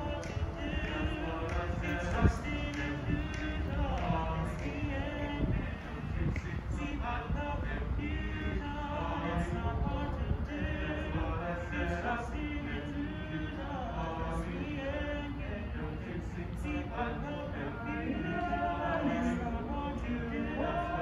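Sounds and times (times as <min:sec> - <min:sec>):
men singing a cappella: 0:00.0 - 0:21.0.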